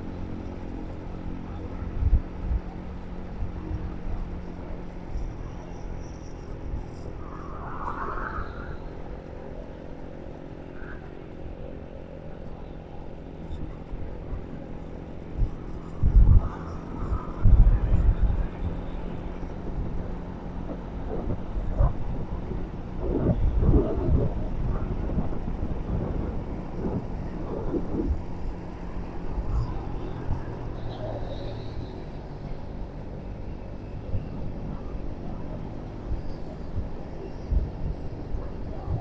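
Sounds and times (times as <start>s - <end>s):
road noise: 0.0s - 39.0s
vehicle engine hum: 0.0s - 39.0s.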